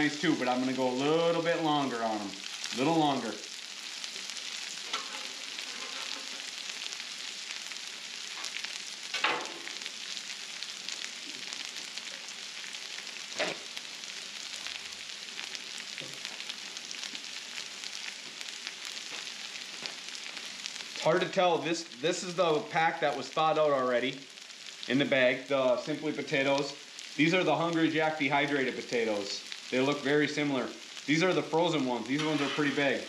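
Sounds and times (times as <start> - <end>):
food sizzling on griddle: 0.0 - 33.0.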